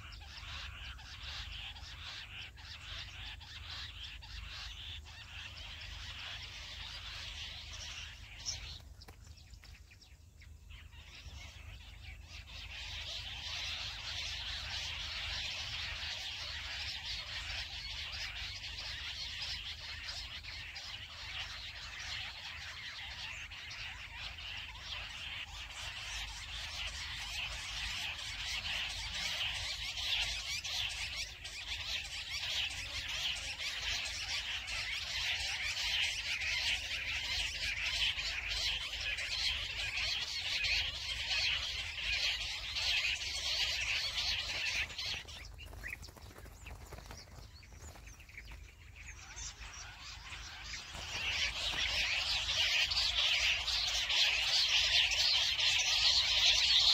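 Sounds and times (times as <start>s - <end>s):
quail chorus chirping: 0.0s - 56.9s.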